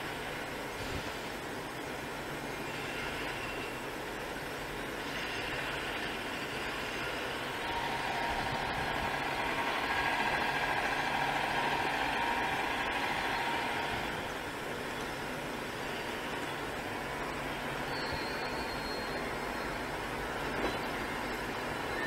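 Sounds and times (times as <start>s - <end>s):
train rumbling into station: 0.0s - 22.0s.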